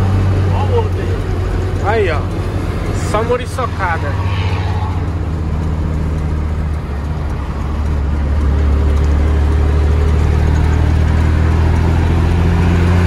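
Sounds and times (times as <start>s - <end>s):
truck diesel engine from cab: 0.0s - 13.0s.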